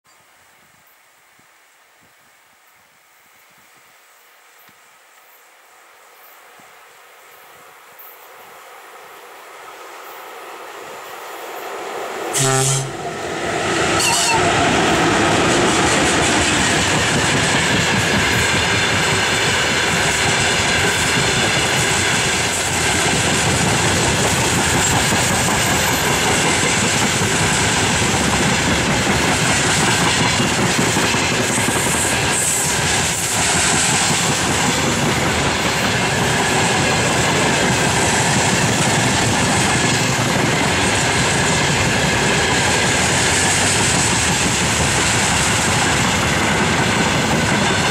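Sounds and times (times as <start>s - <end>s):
freight train wheels rumbling: 9.5s - 47.9s.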